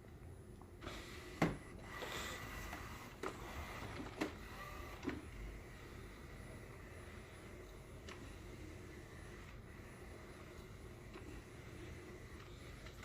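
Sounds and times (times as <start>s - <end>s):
faint mechanical whir: 0.0s - 13.0s.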